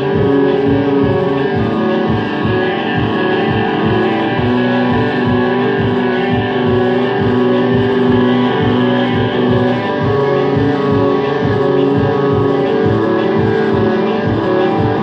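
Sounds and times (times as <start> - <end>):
electric guitar with effects: 0.0 - 15.0
live rock music: 0.0 - 15.0.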